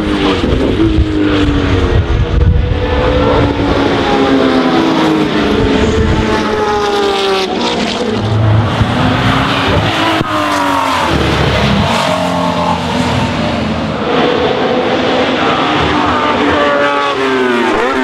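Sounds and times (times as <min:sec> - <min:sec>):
race car engines on overrun: 0:00.0 - 0:18.0.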